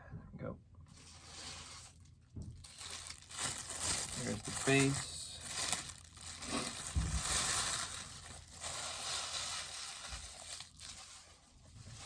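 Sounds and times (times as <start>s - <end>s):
packaging crinkling: 1.0s - 12.0s.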